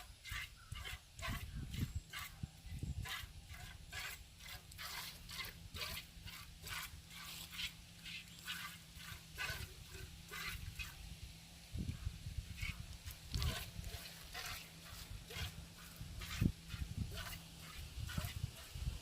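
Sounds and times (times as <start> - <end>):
milk squirting into a pail: 0.0 - 2.3, 3.0 - 11.0, 12.5 - 18.8.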